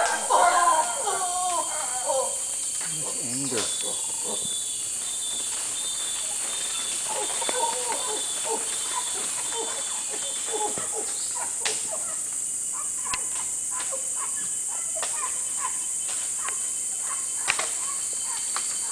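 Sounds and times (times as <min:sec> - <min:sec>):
high hiss of insects: 0:00.0 - 0:18.9
howler monkeys calling: 0:00.0 - 0:18.9.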